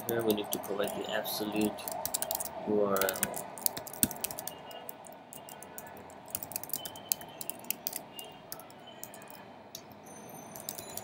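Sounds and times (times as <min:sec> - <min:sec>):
computer keyboard typing: 0:00.0 - 0:11.0.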